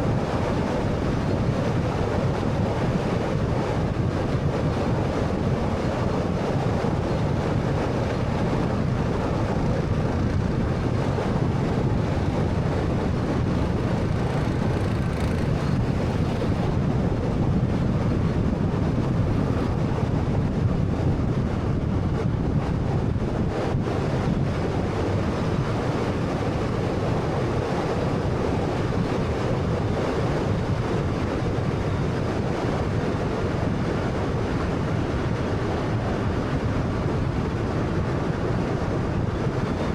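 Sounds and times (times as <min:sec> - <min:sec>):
road and tyre noise: 0:00.0 - 0:39.9
wind noise: 0:00.0 - 0:39.9.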